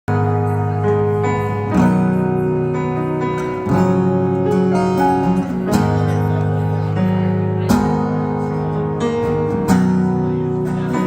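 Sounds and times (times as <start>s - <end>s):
acoustic guitar strumming: 0.1s - 11.0s.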